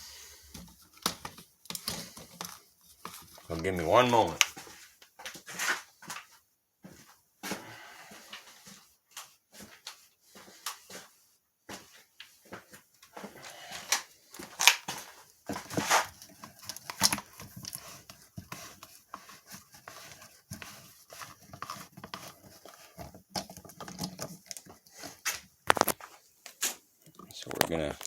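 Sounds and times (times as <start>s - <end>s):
objects handled on a workbench: 0.0s - 28.0s.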